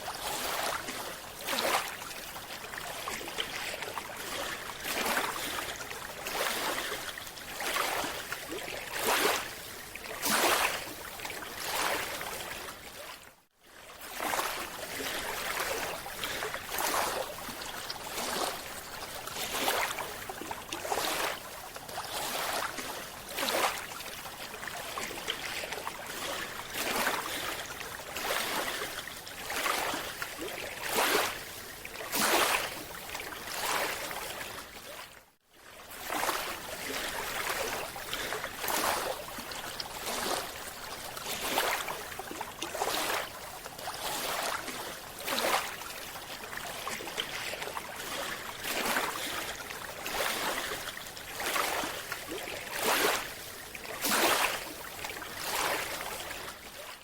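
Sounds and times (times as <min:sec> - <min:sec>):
water swishing and sloshing: 0:00.0 - 0:57.0.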